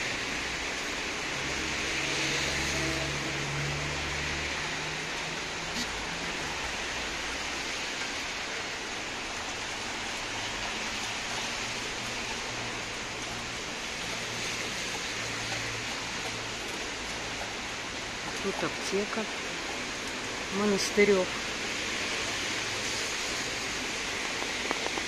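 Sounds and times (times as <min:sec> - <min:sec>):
rain falling on wet street: 0:00.0 - 0:25.0.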